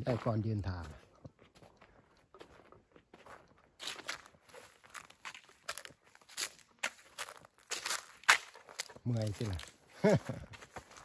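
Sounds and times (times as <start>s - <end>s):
footsteps crunching on forest floor: 0.0s - 11.0s.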